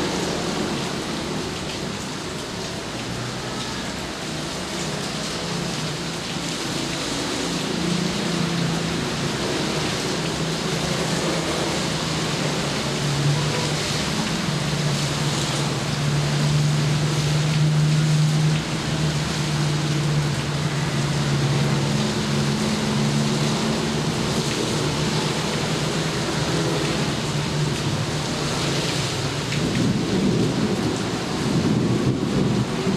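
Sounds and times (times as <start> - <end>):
steady rain hiss: 0.0 - 32.9.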